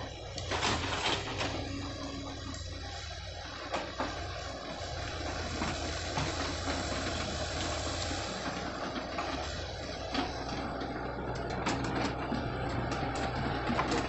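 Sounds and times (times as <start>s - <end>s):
diesel excavator engines running: 0.0s - 14.0s.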